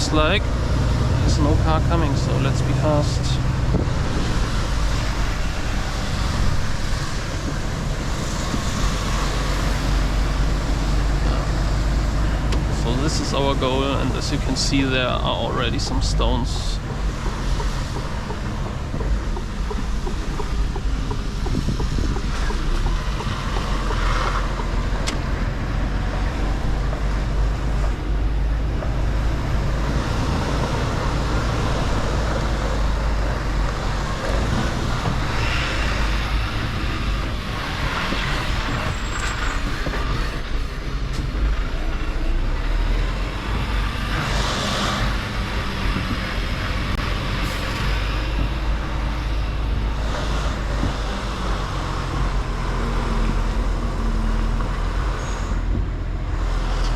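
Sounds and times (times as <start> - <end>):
truck engine rumbling: 0.0 - 56.9.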